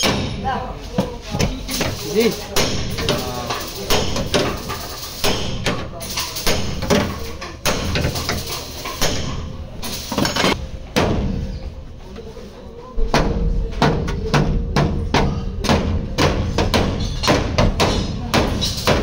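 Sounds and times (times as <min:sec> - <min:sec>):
hammer blows on sheet metal: 0:00.0 - 0:11.6, 0:13.0 - 0:19.0.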